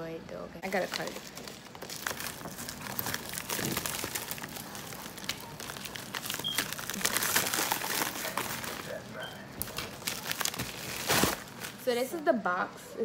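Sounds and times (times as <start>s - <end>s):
plastic mailer bag crinkling: 0.7s - 11.9s.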